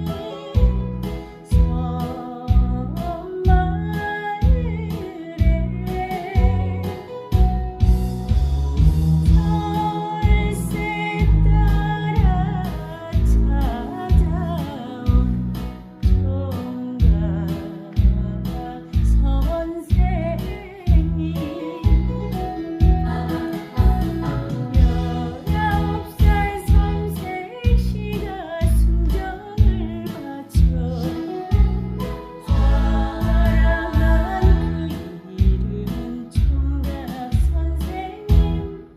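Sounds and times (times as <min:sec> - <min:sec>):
person singing with vibrato: 0:00.0 - 0:07.3, 0:09.3 - 0:38.9
band backing track: 0:00.0 - 0:38.9.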